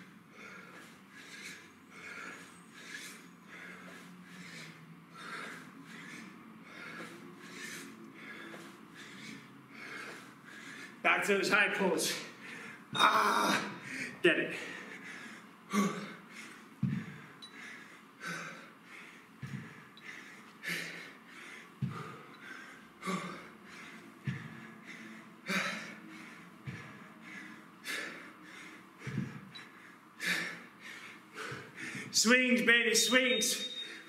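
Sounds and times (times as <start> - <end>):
man breathing hard: 0.0 - 11.0, 11.8 - 32.2, 33.5 - 34.0.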